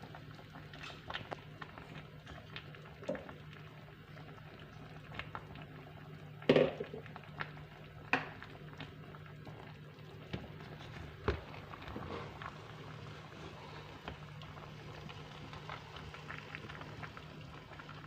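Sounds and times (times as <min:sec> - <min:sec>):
curry bubbling in a pot: 0:00.0 - 0:18.0.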